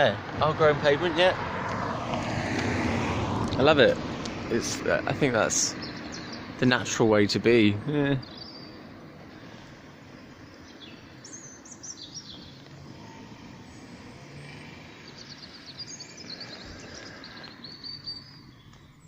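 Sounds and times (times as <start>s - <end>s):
small birds chirping: 2.6s - 19.0s.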